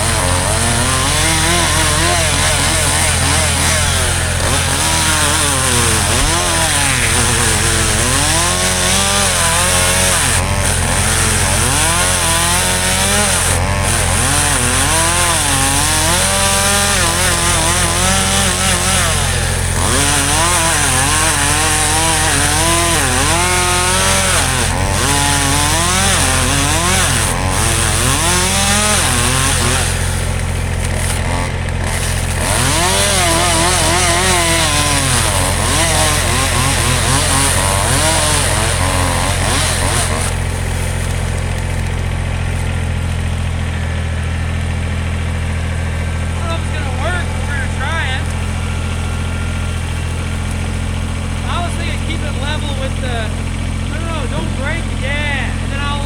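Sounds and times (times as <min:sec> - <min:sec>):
chainsaw running and cutting: 0:00.0 - 0:56.0.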